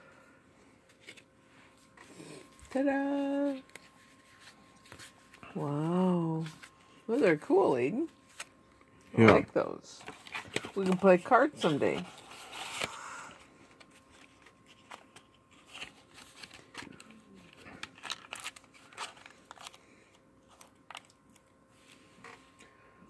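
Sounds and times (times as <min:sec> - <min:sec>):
cards and cardboard rustling: 0:00.8 - 0:08.6, 0:10.0 - 0:22.6.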